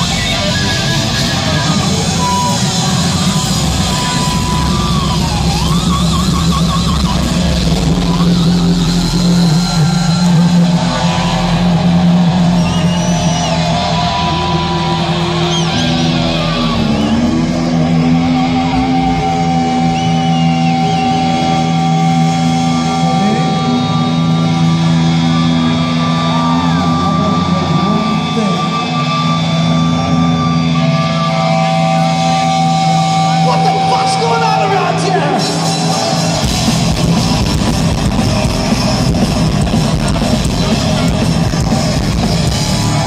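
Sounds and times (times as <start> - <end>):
bass guitar: 0.0 - 43.0
distorted electric guitars: 0.0 - 43.0.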